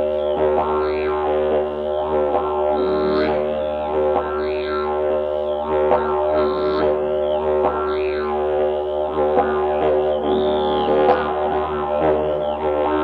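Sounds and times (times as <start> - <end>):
didgeridoo drone: 0.0 - 13.0.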